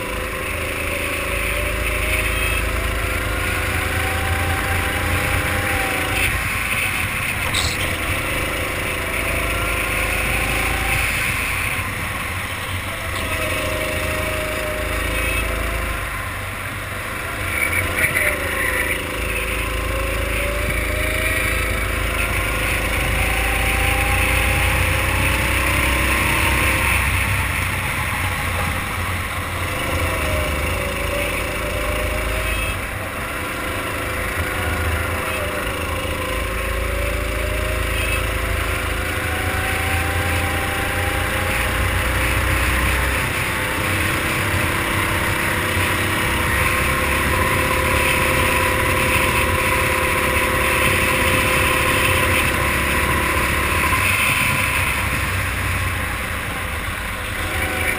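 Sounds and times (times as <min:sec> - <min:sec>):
kart engine at full throttle: 0:00.0 - 0:57.9.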